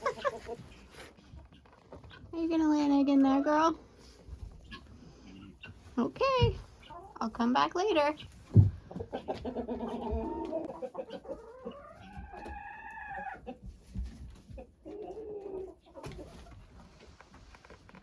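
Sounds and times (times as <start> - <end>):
chickens clucking and calling: 0.0 - 17.5.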